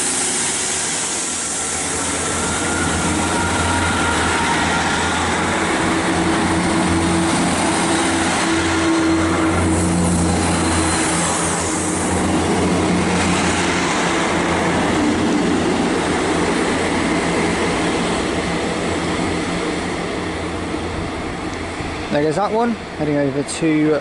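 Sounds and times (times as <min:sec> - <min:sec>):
diesel engines droning: 0:00.0 - 0:24.0
wheel and rail noise: 0:00.0 - 0:24.0.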